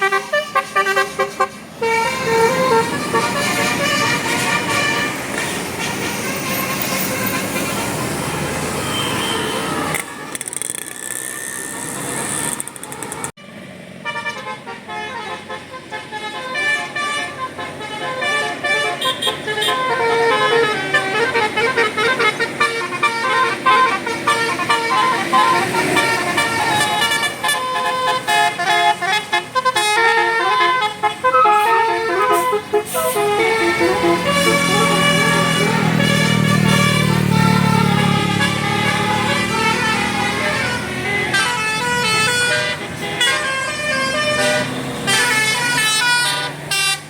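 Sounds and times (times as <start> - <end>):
bus multi-tone horn playing a tune: 0.0 - 10.6, 11.6 - 47.0
street and vehicle noise: 0.0 - 47.0.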